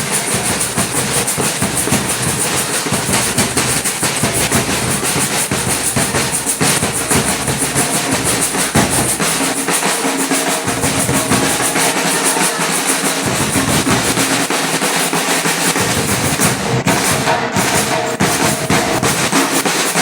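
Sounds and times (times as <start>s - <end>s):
samba drum ensemble playing: 0.0s - 20.0s.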